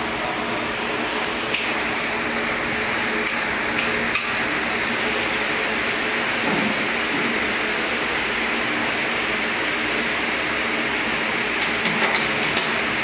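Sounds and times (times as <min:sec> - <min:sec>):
electric fans humming: 0:00.0 - 0:13.0.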